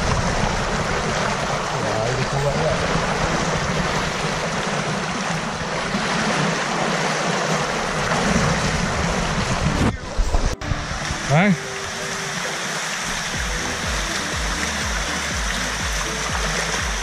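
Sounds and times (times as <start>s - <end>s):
river rushing: 0.0s - 17.0s
water splashing around legs: 0.0s - 17.0s.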